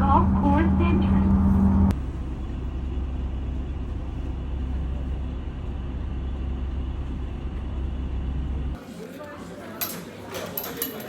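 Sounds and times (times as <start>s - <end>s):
bus engine rumble: 0.0s - 9.4s.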